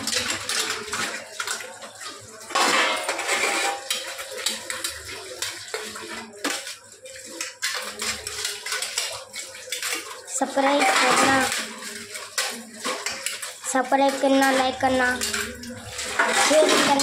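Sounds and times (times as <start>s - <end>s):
metal plates clattering in sink: 0.0s - 17.0s
running tap water splashing: 0.0s - 17.0s.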